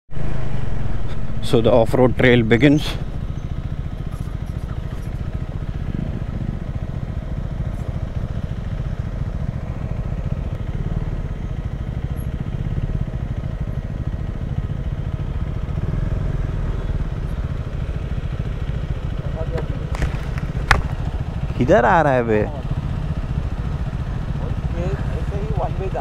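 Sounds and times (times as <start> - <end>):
motorcycle engine running: 0.1 - 26.0.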